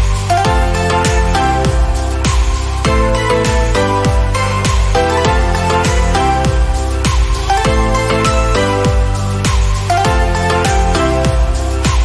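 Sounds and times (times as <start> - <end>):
kick drum beat: 0.0 - 12.0
synth chords: 0.0 - 12.0.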